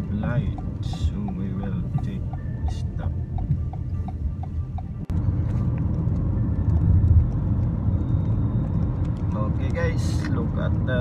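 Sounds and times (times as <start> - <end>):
car engine and tyres rumble: 0.0 - 11.0
light regular ticking: 0.0 - 11.0.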